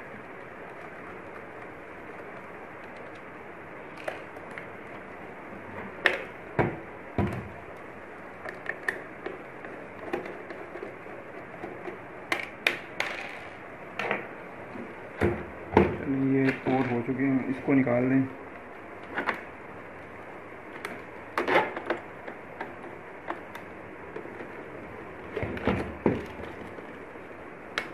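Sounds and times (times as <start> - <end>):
background hiss: 0.0 - 27.9.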